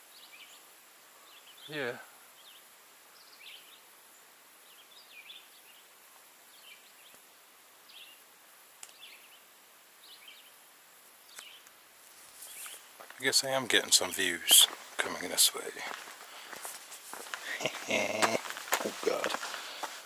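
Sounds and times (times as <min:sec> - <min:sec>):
bird chirping: 0:00.0 - 0:07.2, 0:07.8 - 0:08.2, 0:08.8 - 0:10.6, 0:11.2 - 0:11.7, 0:12.3 - 0:19.8
steady hiss: 0:00.0 - 0:20.0.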